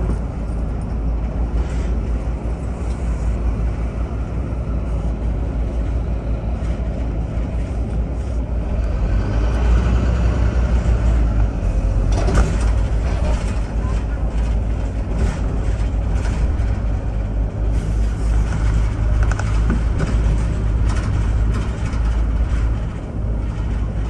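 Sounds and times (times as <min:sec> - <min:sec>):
bus engine rumble: 0:00.0 - 0:24.0
road noise: 0:00.0 - 0:24.0.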